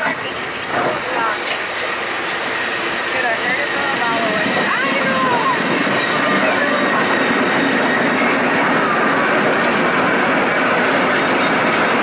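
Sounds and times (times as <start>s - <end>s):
cable car wheels rumbling on rails: 0.0s - 12.0s.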